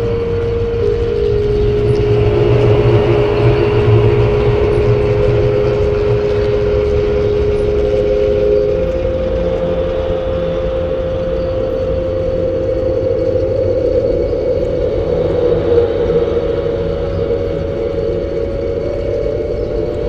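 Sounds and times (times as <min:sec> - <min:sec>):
low rumble: 0:00.0 - 0:20.0
sustained drone tone: 0:00.0 - 0:20.0.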